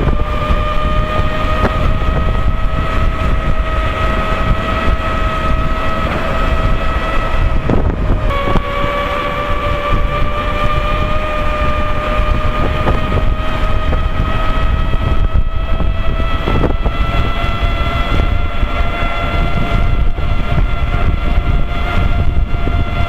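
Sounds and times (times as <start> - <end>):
electric unicycle tire whining: 0.0 - 23.0
wind rumble on microphone: 0.0 - 23.0.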